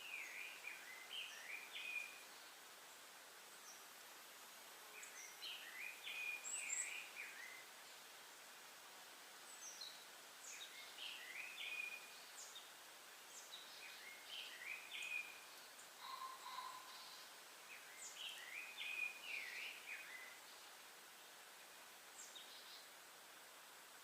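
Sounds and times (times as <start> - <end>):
songbird singing: 0.0 - 4.0, 4.8 - 8.1, 9.4 - 23.1
forest ambience hiss: 0.0 - 24.0.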